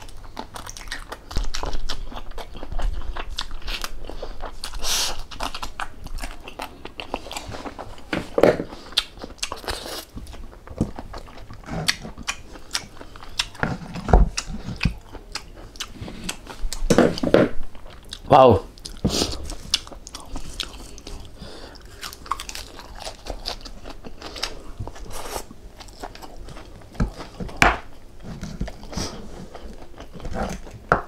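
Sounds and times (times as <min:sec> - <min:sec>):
person crunching food: 0:00.0 - 0:17.2, 0:17.8 - 0:30.9.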